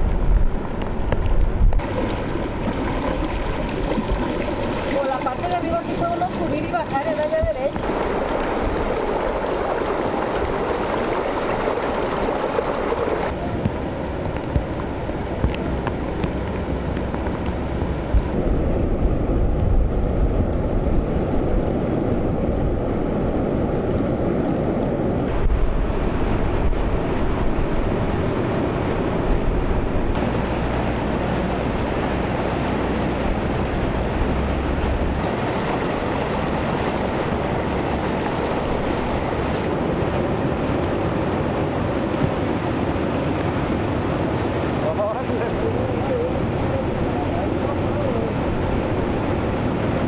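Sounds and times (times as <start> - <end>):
floodwater rushing: 0.0 - 50.0
wind buffeting microphone: 0.0 - 50.0.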